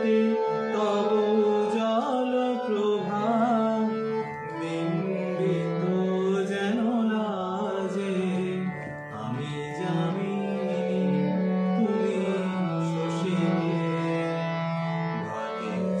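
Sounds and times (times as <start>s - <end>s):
man singing ornamented melody: 0.0s - 16.0s.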